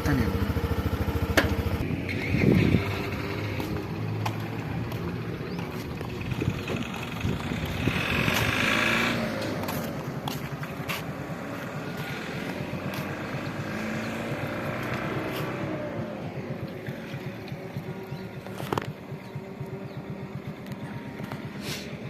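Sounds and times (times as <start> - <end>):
lorry engine running: 0.0 - 22.0.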